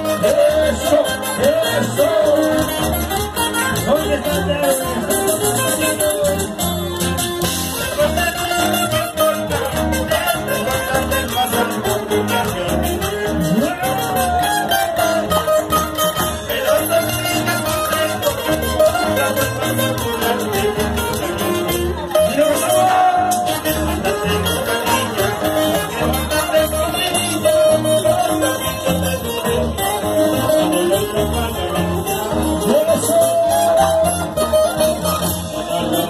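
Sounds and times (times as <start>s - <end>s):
person singing: 0.0s - 6.7s, 7.8s - 36.0s
bass: 0.0s - 36.0s
drums: 0.0s - 36.0s
electric guitar: 0.0s - 36.0s.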